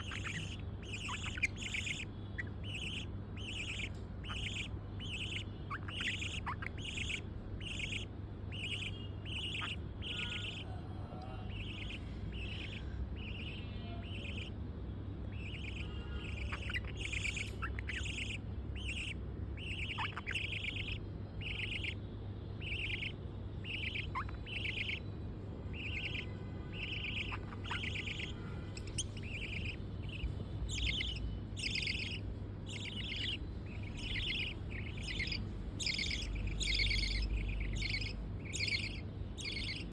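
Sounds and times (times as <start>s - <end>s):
budgerigars calling: 0.0s - 14.6s, 15.2s - 39.9s
sweeping chirps: 0.0s - 14.6s, 15.2s - 39.9s.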